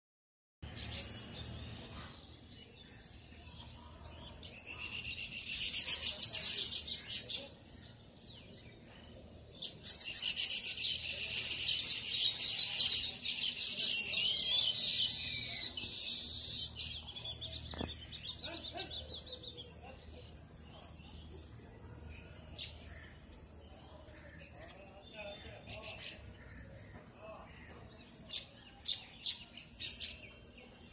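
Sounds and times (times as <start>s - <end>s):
birds chirping rapidly: 0.6s - 30.9s.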